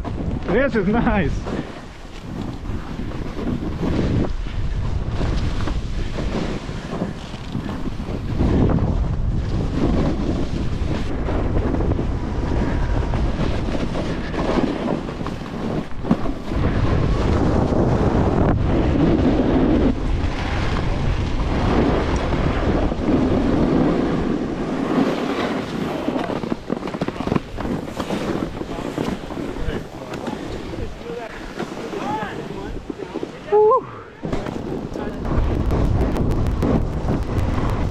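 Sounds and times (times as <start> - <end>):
snowboard scraping over snow: 0.0 - 37.9
wind rushing over microphone: 0.0 - 37.9.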